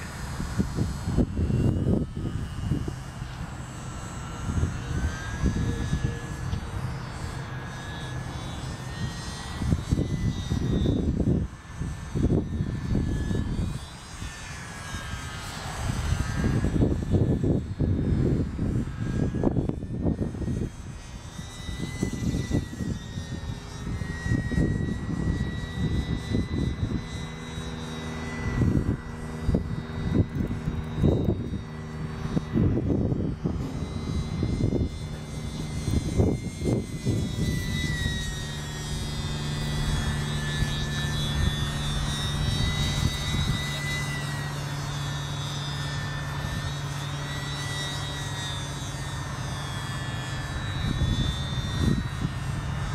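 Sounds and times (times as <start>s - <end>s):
model plane motor whine: 0.0s - 52.9s
steady low hum: 0.0s - 52.9s.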